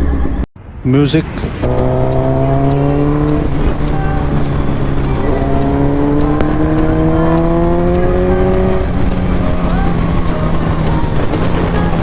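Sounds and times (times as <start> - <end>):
wind and road noise: 0.0 - 12.0
motorcycle engine accelerating: 1.6 - 12.0.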